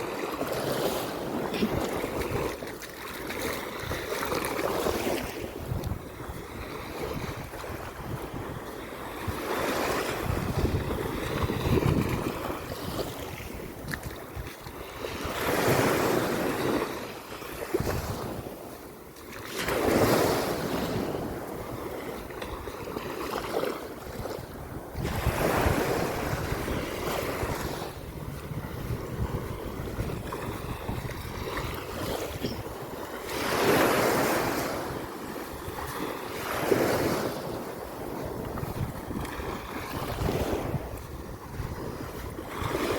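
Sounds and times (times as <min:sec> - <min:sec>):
sea waves breaking: 0:00.0 - 0:42.9
wind on microphone: 0:00.0 - 0:42.9.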